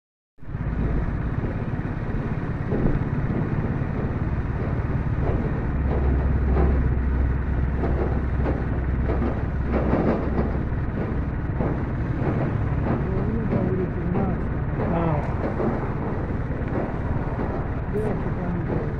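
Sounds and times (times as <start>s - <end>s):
road and wind noise: 0.4s - 18.9s
vehicle engine humming: 0.4s - 18.9s.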